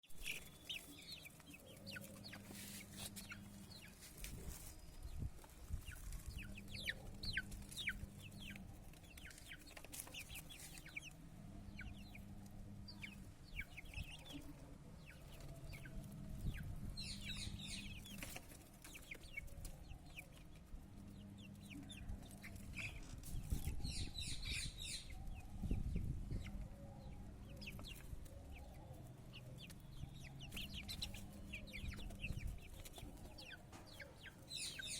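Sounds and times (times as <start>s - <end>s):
chicks peeping: 0.1s - 34.9s
chickens clucking: 0.2s - 34.9s.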